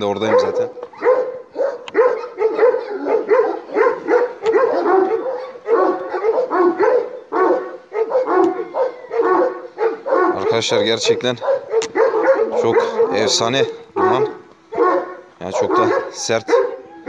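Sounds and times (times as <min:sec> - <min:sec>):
dog barking aggressively: 0:00.2 - 0:16.9.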